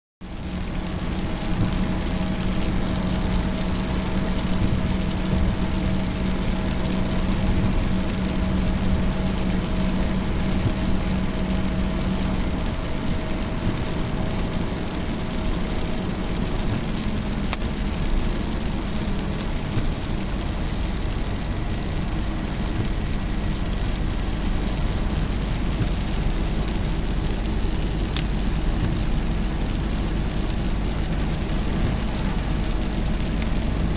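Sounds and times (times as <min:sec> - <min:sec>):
road or rain noise: 0:00.2 - 0:33.9
vehicle engine running: 0:00.2 - 0:33.9.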